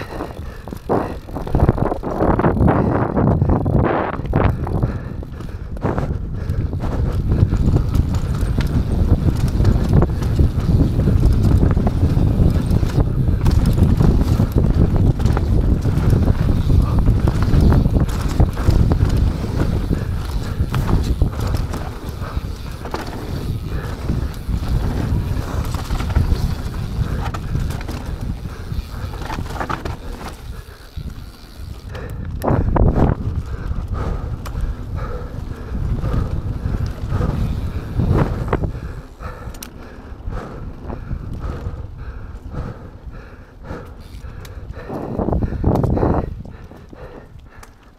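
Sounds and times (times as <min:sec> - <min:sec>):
wind rushing over microphone: 0:00.0 - 0:47.6
bike rattling and knocking: 0:00.0 - 0:47.8
bike tyres rolling on dirt: 0:00.0 - 0:47.9.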